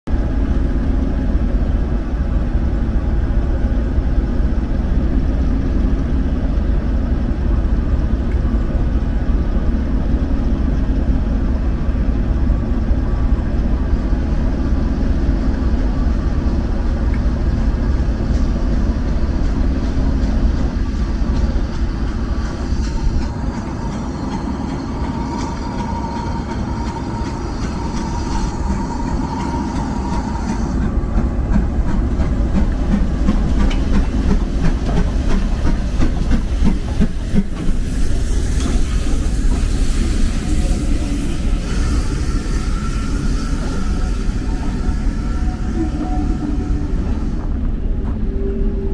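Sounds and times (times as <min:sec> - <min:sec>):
diesel locomotive idling: 0:00.1 - 0:48.9
steam train arriving: 0:00.2 - 0:48.9.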